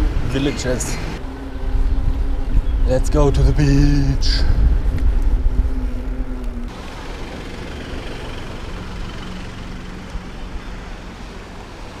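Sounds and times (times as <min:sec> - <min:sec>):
bike tyres rolling on pavement: 0:00.0 - 0:12.0
low hum: 0:00.0 - 0:12.0.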